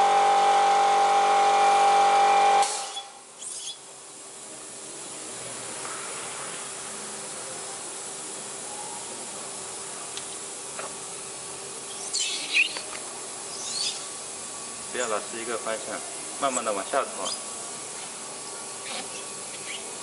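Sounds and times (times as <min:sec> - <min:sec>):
steady hiss: 0:02.7 - 0:20.0.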